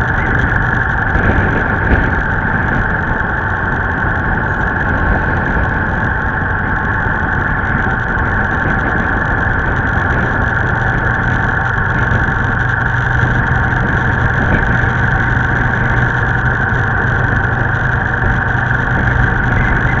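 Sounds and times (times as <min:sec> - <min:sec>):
road and wind noise: 0:00.0 - 0:20.0
vehicle engine drone: 0:00.0 - 0:20.0.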